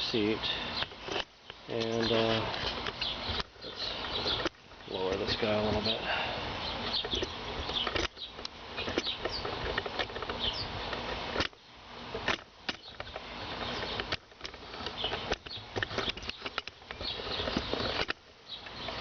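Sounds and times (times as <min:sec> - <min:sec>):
steady hiss: 0:00.0 - 0:19.0
clicks and knocks of seat parts: 0:00.8 - 0:06.0, 0:06.8 - 0:19.0.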